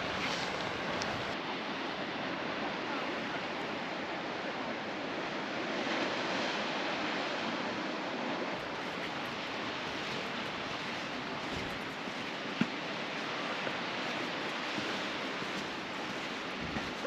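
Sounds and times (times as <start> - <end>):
ocean surf rushing: 0.0 - 17.0
wind: 0.0 - 17.0.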